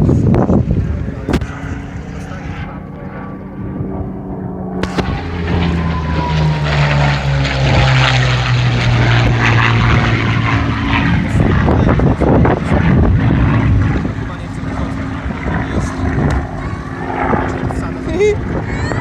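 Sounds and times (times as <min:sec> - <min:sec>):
propeller plane engine flying past: 0:00.0 - 0:19.0.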